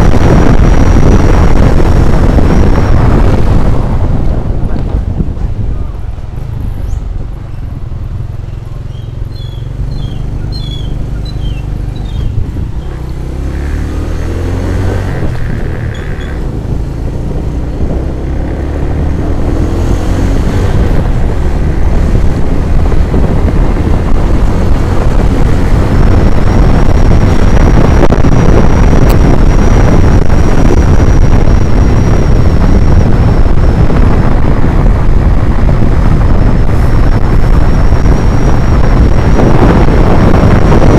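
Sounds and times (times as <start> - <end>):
vehicle engine speeding up: 0.0 - 5.6, 6.2 - 40.9
wind rushing over microphone: 0.0 - 40.9.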